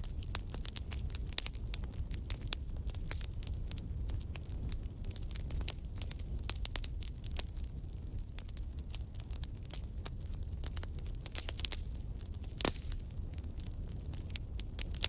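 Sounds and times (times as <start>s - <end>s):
low steady fire rumble: 0.0s - 15.0s
wood fire crackling and popping: 0.0s - 15.0s.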